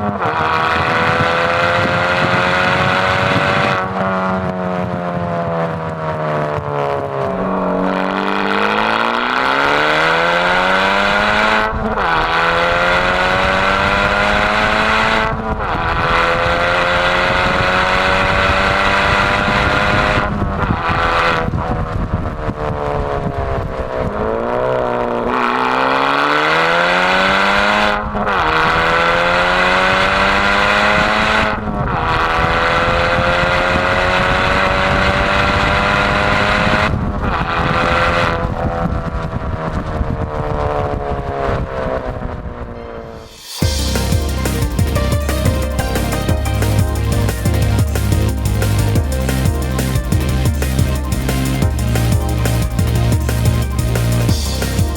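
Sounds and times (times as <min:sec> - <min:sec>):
car engine accelerating: 0:00.0 - 0:54.9.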